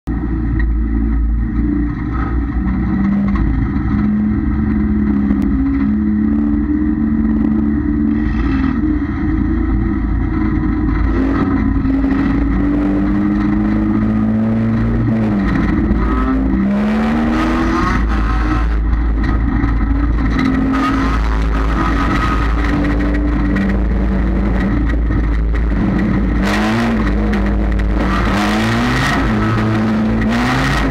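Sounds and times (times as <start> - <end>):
race car engine revving: 0.1 - 30.9.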